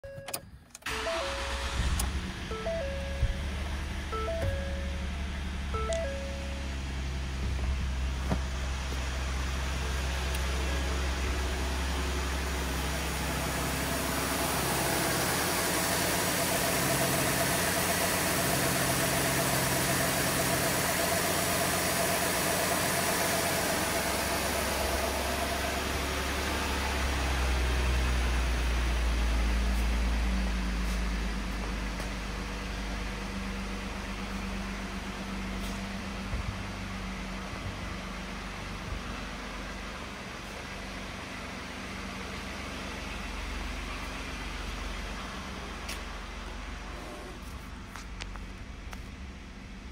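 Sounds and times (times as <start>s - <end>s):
truck engine idling: 0.8s - 49.9s.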